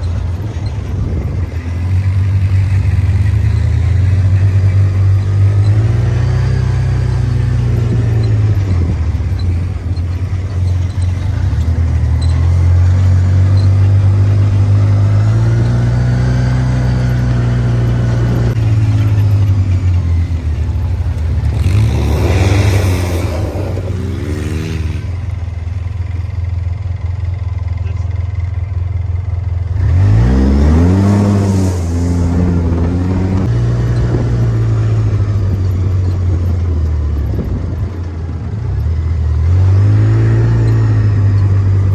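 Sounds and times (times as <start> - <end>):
vehicle engine revving: 0.0 - 26.8, 29.2 - 41.9.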